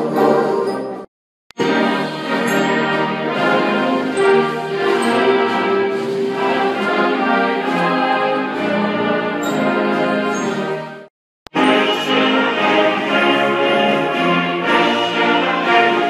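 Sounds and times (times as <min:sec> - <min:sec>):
concert band playing: 0:01.6 - 0:10.9, 0:11.5 - 0:16.0.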